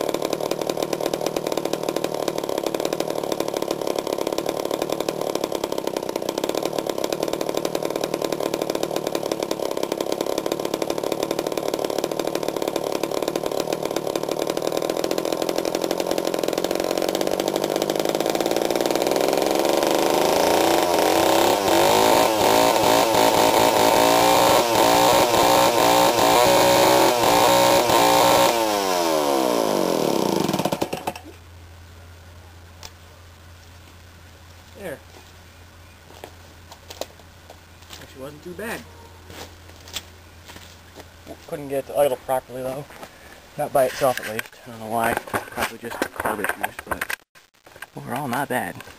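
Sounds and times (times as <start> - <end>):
chainsaw engine running: 0.0 - 31.4, 36.0 - 47.2.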